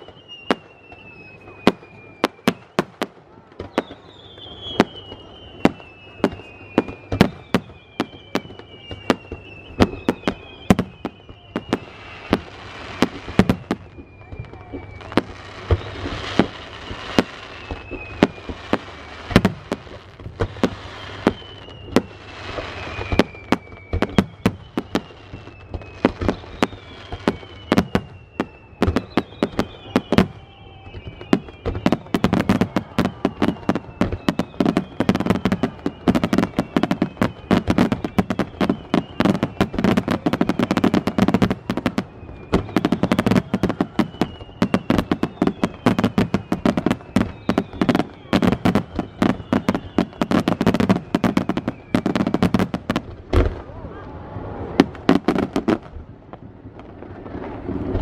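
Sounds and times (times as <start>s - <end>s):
crackling firework barrage: 0.0s - 58.0s
falling firework whistles: 0.0s - 58.0s.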